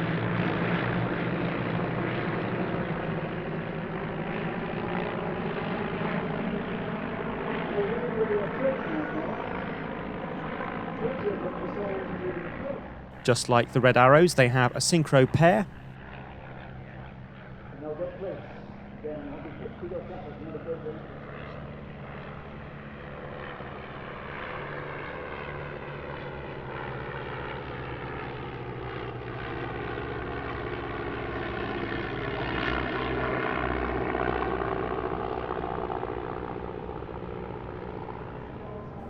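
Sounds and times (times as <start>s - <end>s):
propeller planes droning past: 0.0s - 39.0s.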